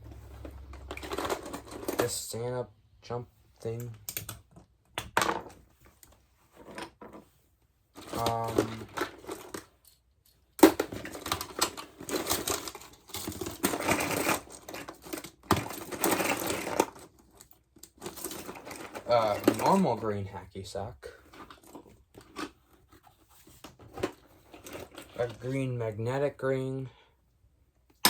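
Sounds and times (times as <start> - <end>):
plastic toys rustling and clattering: 0.0 - 2.4, 3.7 - 26.3.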